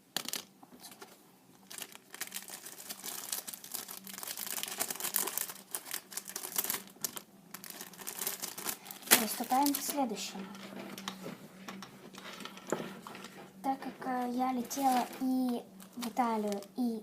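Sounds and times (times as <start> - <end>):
packaging crinkling and rustling: 0.8 - 11.4, 12.1 - 16.9.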